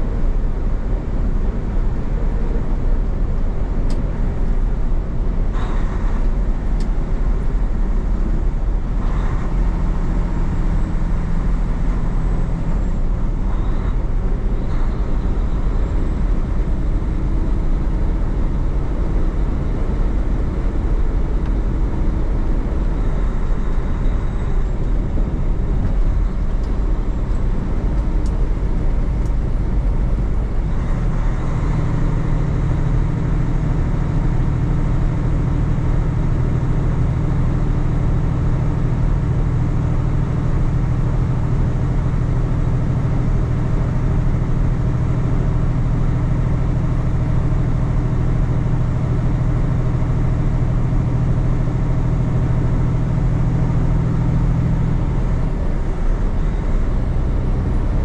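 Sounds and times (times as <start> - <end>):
diesel truck engine running: 0.0 - 58.0
road noise: 0.0 - 58.0.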